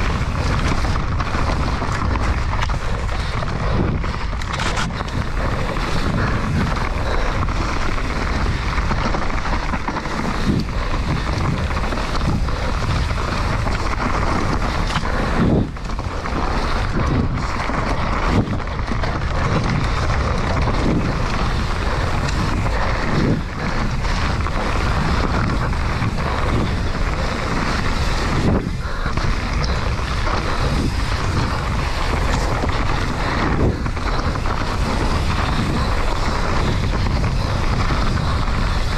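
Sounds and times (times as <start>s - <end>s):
bike knocking on bumps: 0.0s - 38.9s
bike tyres rolling over dirt: 0.0s - 38.9s
wind rushing over microphone: 0.0s - 38.9s.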